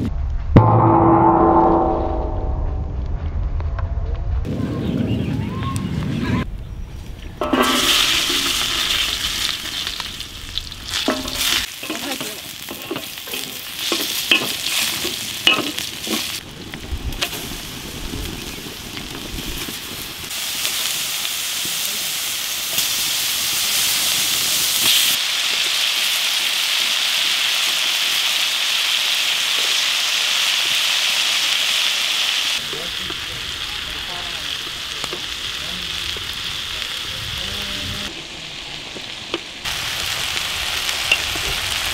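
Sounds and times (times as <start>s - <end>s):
food sizzling in hot oil: 7.4s - 16.4s, 17.1s - 41.9s.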